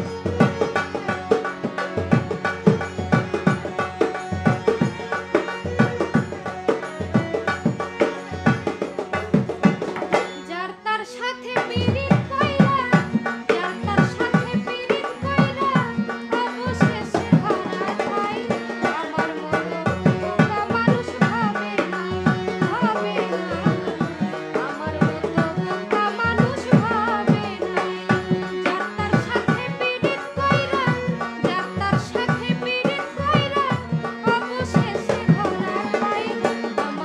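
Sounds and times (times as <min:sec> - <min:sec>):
tabla rhythm: 0:00.0 - 0:10.7, 0:11.3 - 0:37.0.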